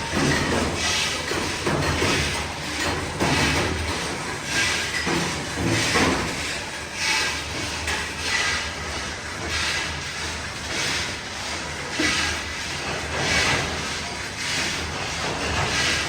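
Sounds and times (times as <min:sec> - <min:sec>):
factory machinery hissing clatter: 0:00.0 - 0:16.0.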